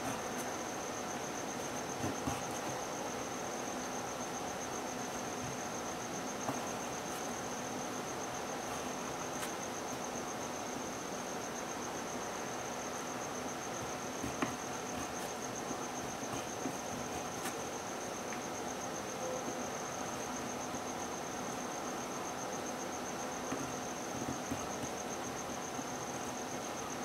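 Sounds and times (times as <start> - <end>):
cricket trilling: 0.0 - 27.0.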